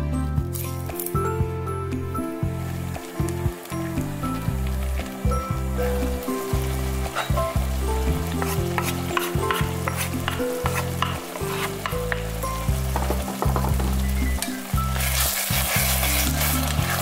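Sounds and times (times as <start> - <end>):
background music with bass: 0.0 - 17.0
compote bubbling in a pan: 2.5 - 17.0
wooden spatula stirring: 3.0 - 17.0.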